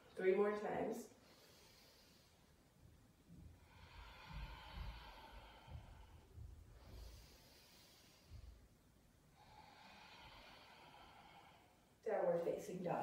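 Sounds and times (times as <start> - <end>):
woman breathing: 1.1 - 12.4.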